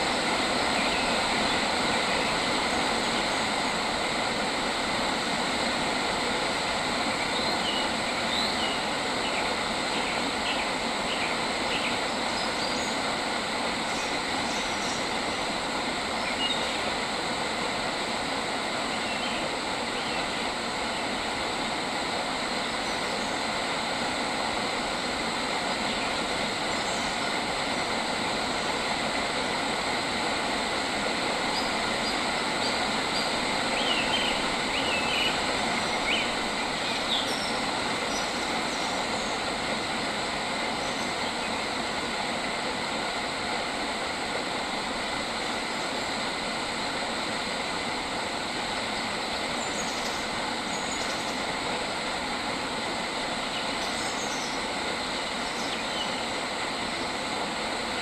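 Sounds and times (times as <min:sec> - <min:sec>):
outdoor nature ambience hiss: 0:00.0 - 0:58.0.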